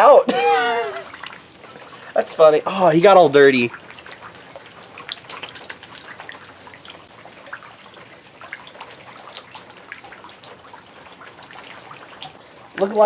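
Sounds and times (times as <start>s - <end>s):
faint rain hiss: 0.0s - 13.0s
raindrops hitting: 0.0s - 13.0s.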